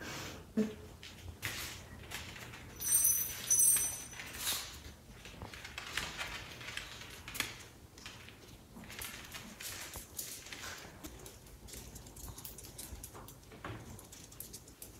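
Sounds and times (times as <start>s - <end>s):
dog claws clicking on floor: 1.0s - 14.9s.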